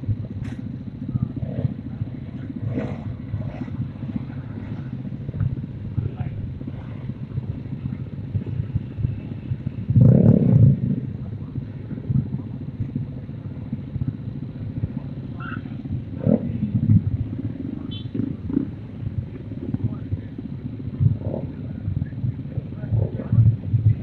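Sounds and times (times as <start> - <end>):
mini bike engines rumbling: 0.0 - 24.0.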